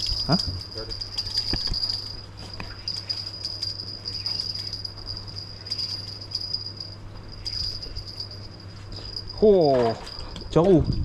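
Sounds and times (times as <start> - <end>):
insects trilling: 0.0 - 10.2
faint low hum: 0.0 - 11.0.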